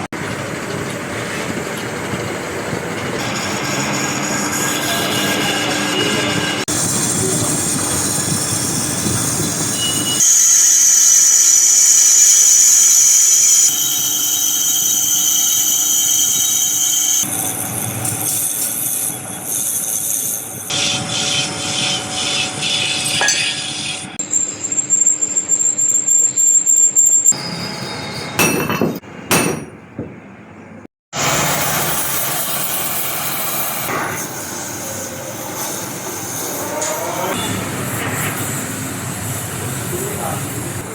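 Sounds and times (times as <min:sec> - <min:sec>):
metal machining whine: 0:03.1 - 0:28.4, 0:31.2 - 0:40.9.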